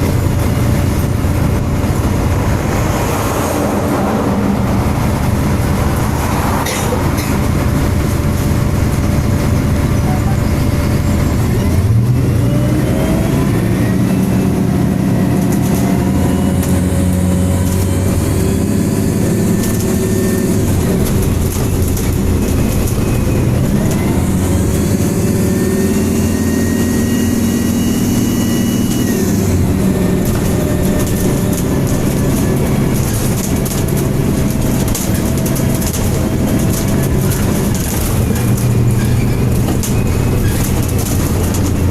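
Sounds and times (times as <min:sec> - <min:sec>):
bus diesel engine: 0:00.0 - 0:41.9.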